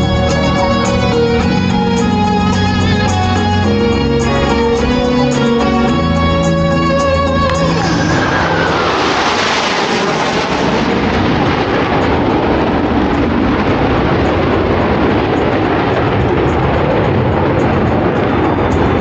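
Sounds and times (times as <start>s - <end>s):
jets making loud pass: 0.0s - 19.0s
steady jet noise: 0.0s - 19.0s.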